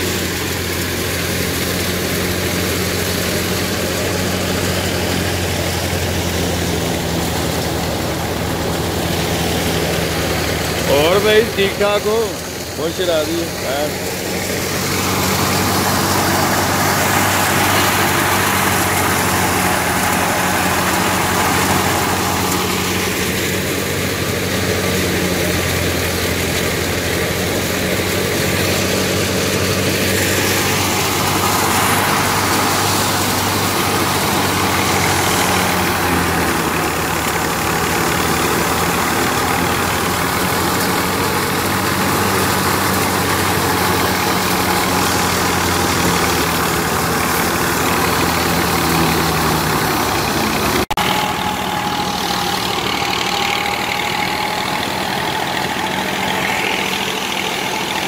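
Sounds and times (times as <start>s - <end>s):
tractor engine humming: 0.0s - 58.0s.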